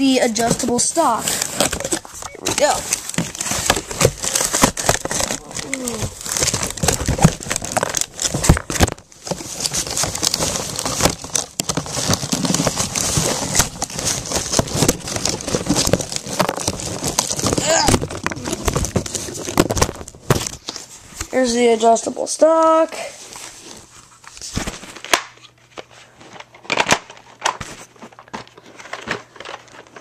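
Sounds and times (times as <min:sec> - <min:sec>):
packaging crinkling: 0:00.2 - 0:21.5, 0:23.2 - 0:30.0.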